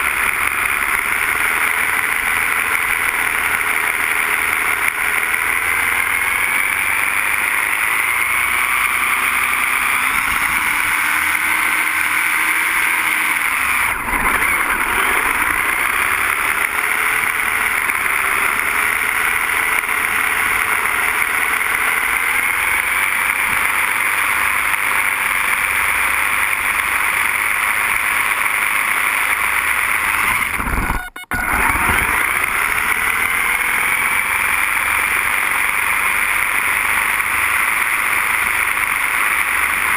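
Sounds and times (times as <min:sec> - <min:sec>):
toy car motor whining: 0:00.0 - 0:39.9.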